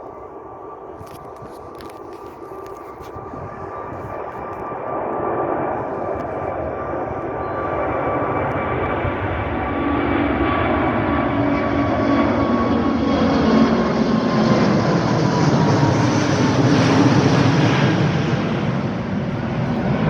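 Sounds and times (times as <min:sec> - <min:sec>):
jet airliner engines roaring: 0:00.0 - 0:20.0.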